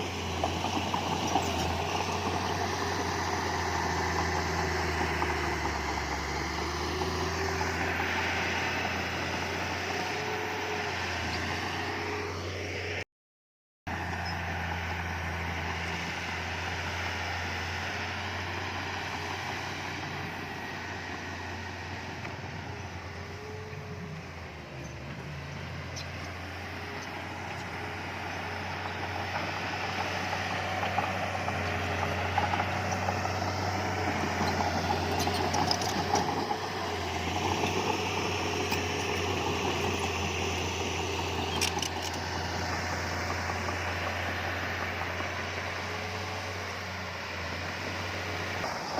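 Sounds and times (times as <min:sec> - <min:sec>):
heavy diesel engine droning: 0:00.0 - 0:13.0, 0:13.9 - 0:48.9.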